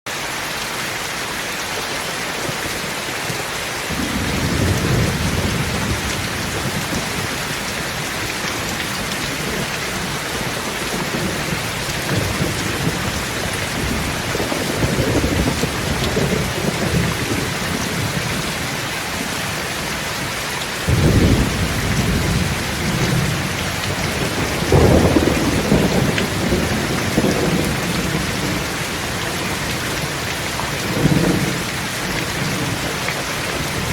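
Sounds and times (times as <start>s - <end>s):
heavy rain: 0.1s - 33.9s
thunder rumbling: 3.9s - 20.1s, 20.9s - 33.9s.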